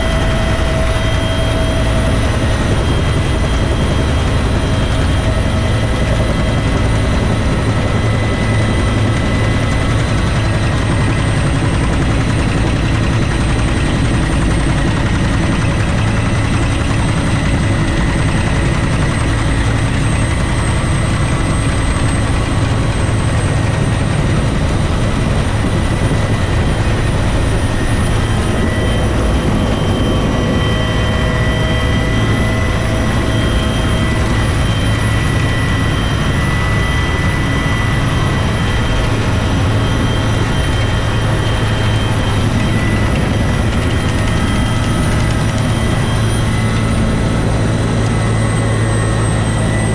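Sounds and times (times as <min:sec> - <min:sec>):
helicopter rotor noise: 0:00.0 - 0:49.9
turbine engine whine: 0:00.0 - 0:49.9.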